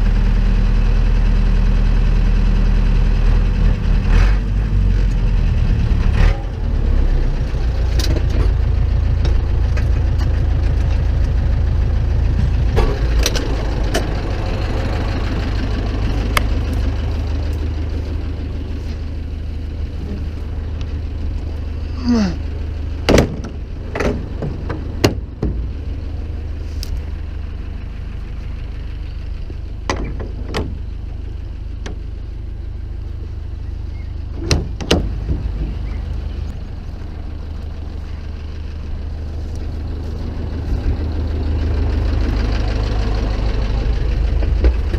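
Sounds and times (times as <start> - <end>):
tractor diesel engine idling: 0.0 - 44.9.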